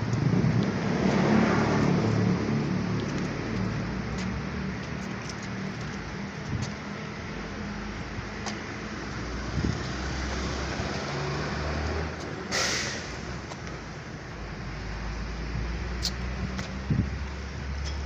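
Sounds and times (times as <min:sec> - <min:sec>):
vehicle passing: 0:00.0 - 0:17.8.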